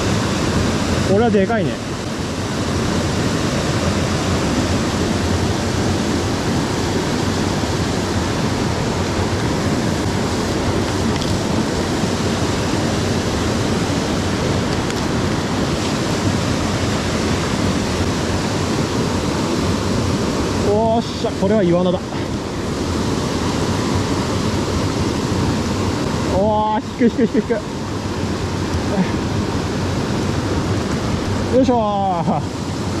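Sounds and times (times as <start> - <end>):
stream rushing: 0.0 - 33.0.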